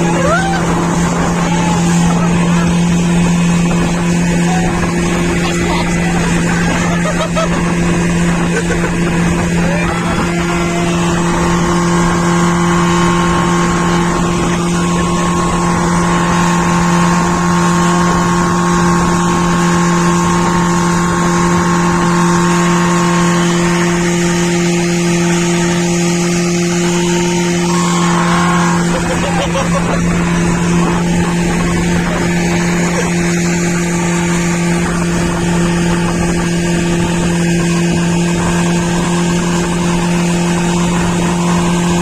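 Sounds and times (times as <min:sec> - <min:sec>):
motorboat engine running: 0:00.0 - 0:42.0.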